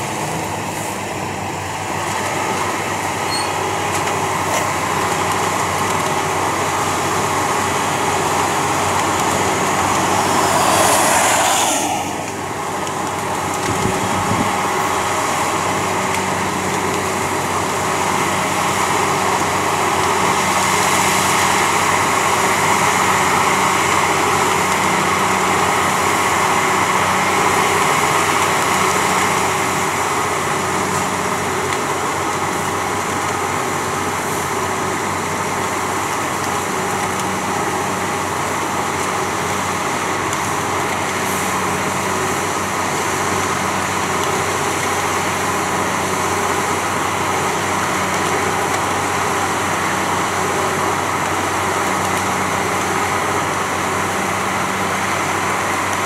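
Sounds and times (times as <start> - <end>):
diesel engines running: 0.0 - 56.0
snow blower casting snow: 0.0 - 56.0.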